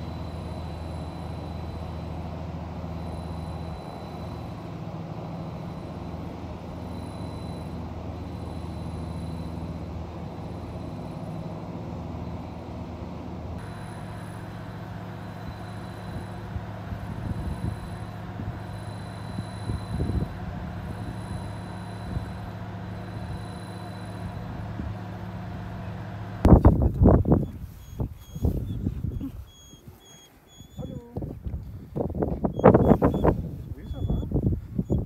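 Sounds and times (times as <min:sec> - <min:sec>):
boat diesel engine rumbling: 0:00.0 - 0:31.2, 0:31.8 - 0:35.0.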